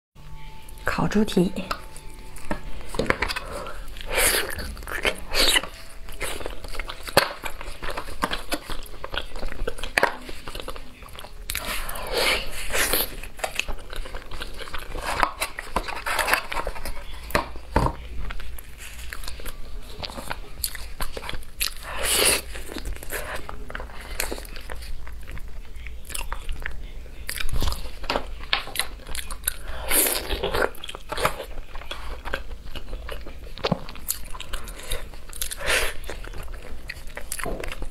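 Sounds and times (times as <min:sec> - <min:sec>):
chewing and biting meat: 0:01.9 - 0:37.9.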